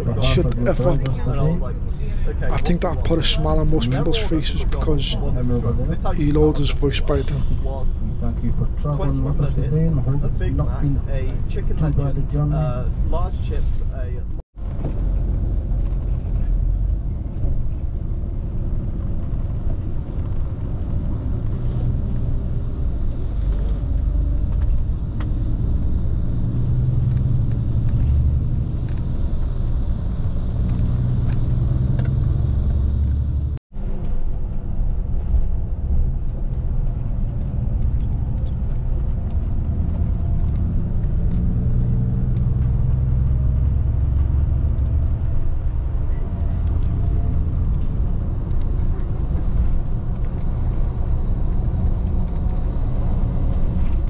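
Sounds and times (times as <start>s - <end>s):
coach engine and road rumble: 0.0s - 54.0s.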